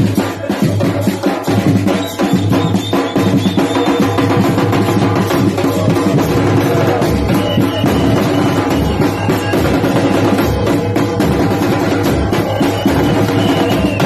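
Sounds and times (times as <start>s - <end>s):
drums beating steady rhythm: 0.0s - 14.0s.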